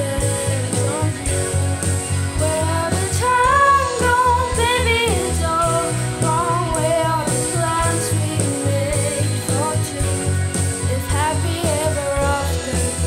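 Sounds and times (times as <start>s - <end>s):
girl singing: 0.0s - 1.3s, 2.4s - 10.2s, 10.9s - 13.0s
band playing: 0.0s - 13.0s
drum kit beat: 0.0s - 13.0s.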